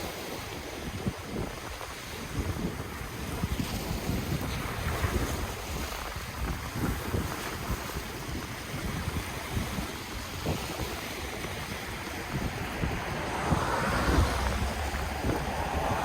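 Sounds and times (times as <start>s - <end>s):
ocean waves washing on shore: 0.0s - 16.0s
wind buffeting microphone: 0.0s - 16.0s.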